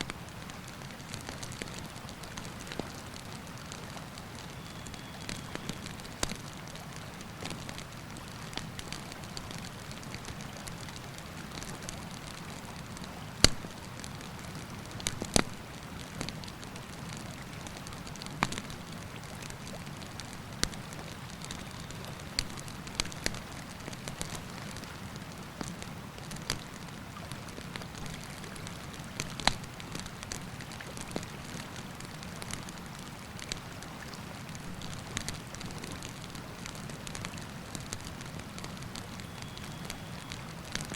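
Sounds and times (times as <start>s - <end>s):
campfire crackling and popping: 0.0s - 33.8s, 34.4s - 40.9s.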